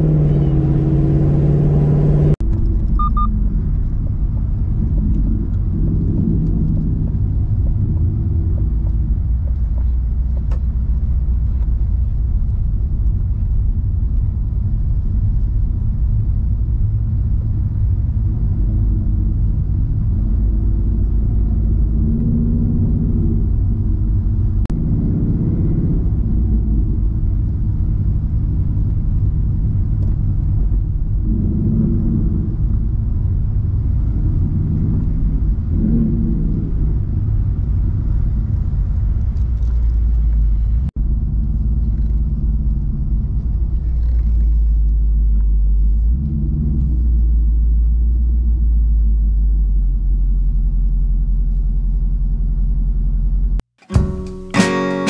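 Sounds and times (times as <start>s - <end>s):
car engine droning: 0.0s - 55.0s
road noise: 0.0s - 55.0s.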